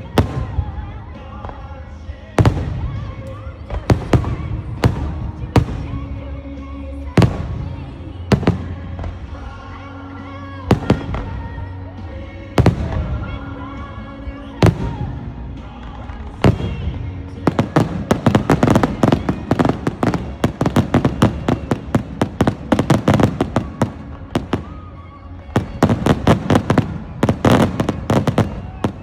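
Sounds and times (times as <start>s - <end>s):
fireworks bangs: 0.0s - 9.6s, 10.6s - 13.9s, 14.6s - 29.0s.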